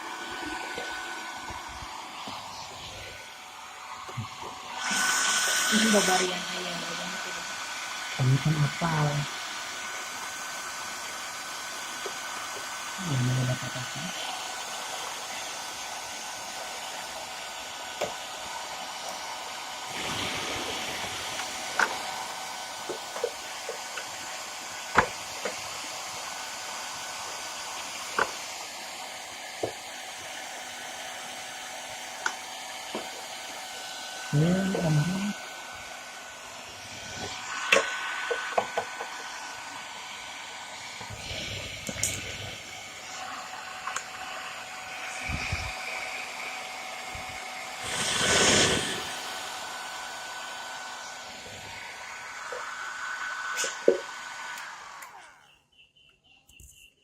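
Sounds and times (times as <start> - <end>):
hair dryer blowing: 0.0 - 55.5.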